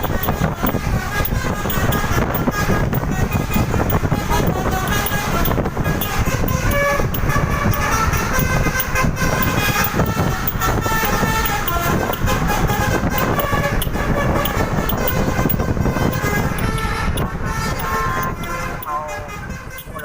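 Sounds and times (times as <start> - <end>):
bus musical horn: 0.0 - 20.0
road and wind rumble: 0.0 - 20.0.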